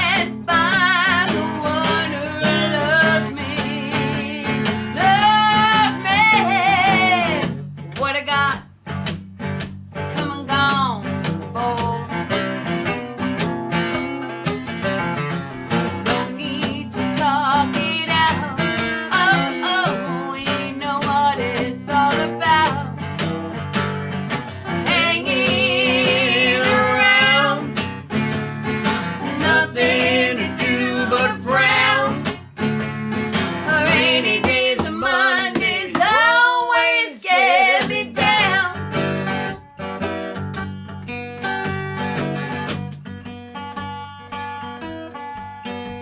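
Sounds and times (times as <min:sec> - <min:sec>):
acoustic guitar strummed: 0:00.0 - 0:46.0.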